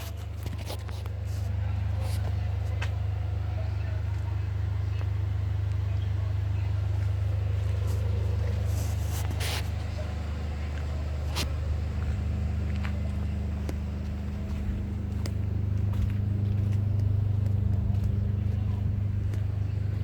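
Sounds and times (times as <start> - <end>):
faint clicks and rustles: 0.0 - 20.0
machinery drone: 0.0 - 20.0.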